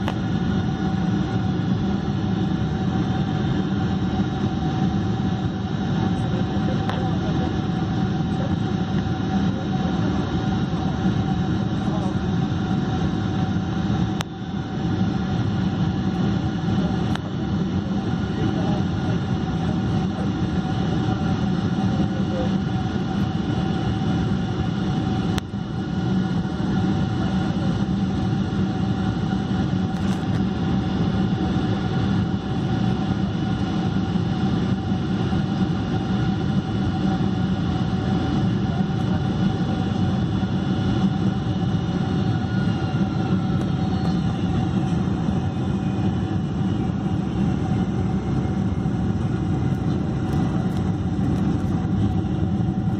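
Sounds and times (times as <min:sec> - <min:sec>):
airplane cabin rumble: 0:00.0 - 0:52.9
jet engines humming and whining: 0:00.0 - 0:52.9.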